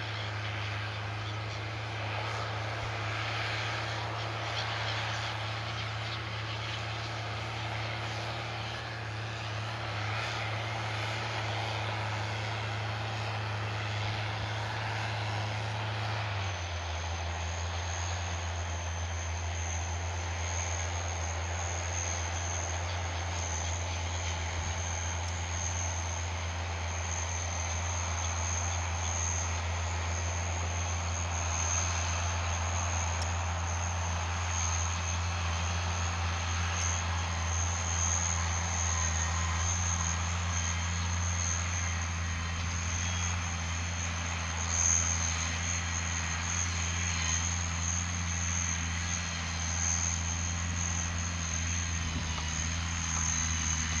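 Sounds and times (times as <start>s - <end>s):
steady high whine: 0.0s - 54.0s
tractor diesel engines: 0.0s - 54.0s.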